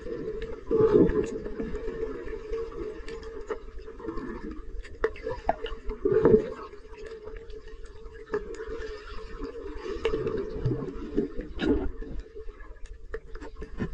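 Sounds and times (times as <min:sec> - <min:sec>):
bubbling gurgle: 0:00.0 - 0:12.6
muffled underwater wash: 0:00.0 - 0:13.9.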